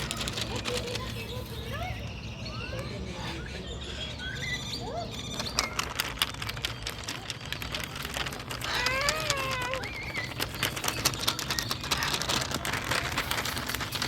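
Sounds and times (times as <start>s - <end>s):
birds chirping and whistling: 0.0s - 14.0s
low background hum: 0.0s - 14.0s.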